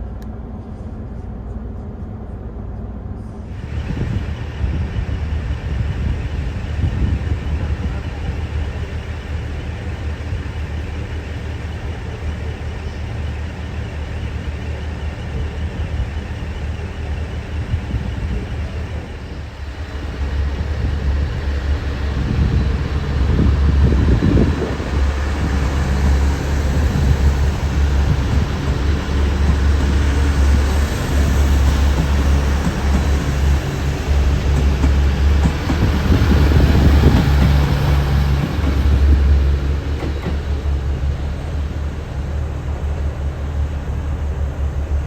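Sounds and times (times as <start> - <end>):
diesel train engine hum: 0.0 - 45.0.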